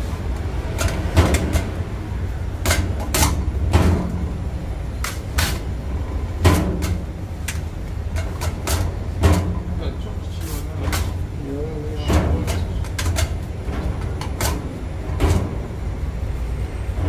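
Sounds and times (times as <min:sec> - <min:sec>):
low machine hum: 0:00.0 - 0:17.0
sharp knocks and clatters: 0:00.3 - 0:10.0, 0:10.7 - 0:11.3, 0:12.0 - 0:16.0.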